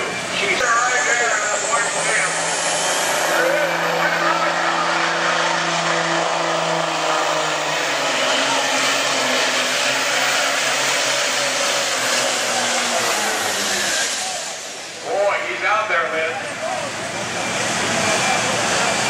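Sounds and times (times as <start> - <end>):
tractor diesel engine at full throttle: 0.0 - 19.0.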